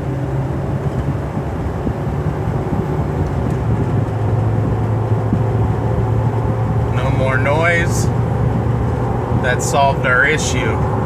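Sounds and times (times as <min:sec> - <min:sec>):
engine and road drone in cabin: 0:00.0 - 0:11.0.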